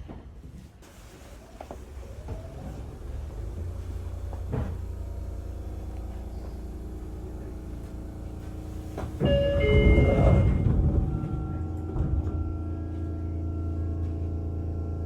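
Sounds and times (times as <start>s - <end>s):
train equipment rumble: 0.0s - 15.0s.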